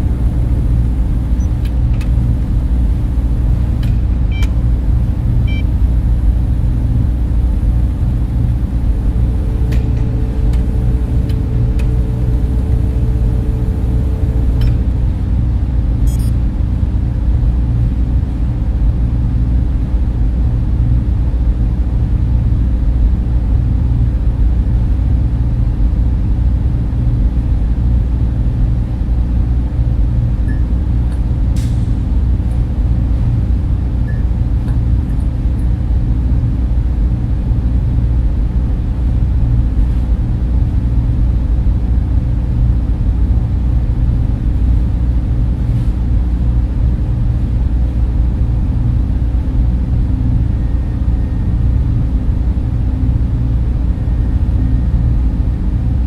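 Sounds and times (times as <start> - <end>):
server cooling fans droning: 0.0 - 56.0.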